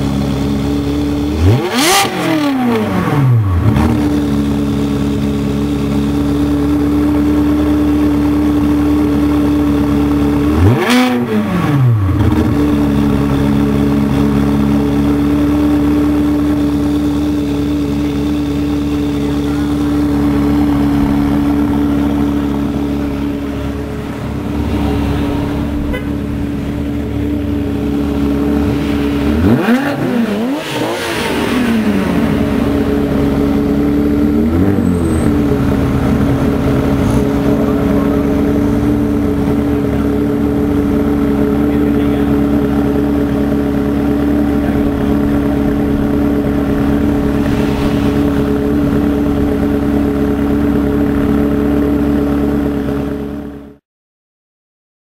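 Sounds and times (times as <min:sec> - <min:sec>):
car engine idling and revving: 0:00.0 - 0:53.8.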